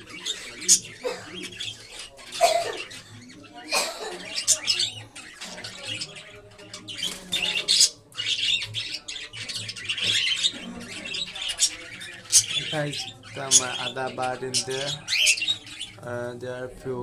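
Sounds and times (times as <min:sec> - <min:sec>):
parrots chattering and squawking: 0:00.0 - 0:16.3.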